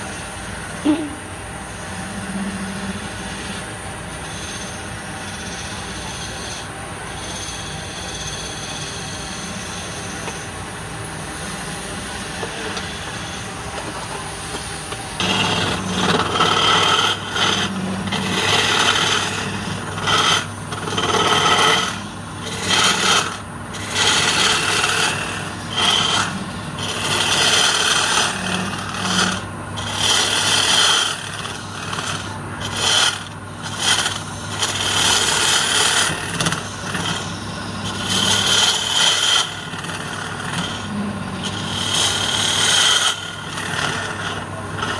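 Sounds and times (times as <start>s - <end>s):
lathe motor hum: 0.0s - 44.9s
scraper cutting spinning wood: 1.8s - 44.9s.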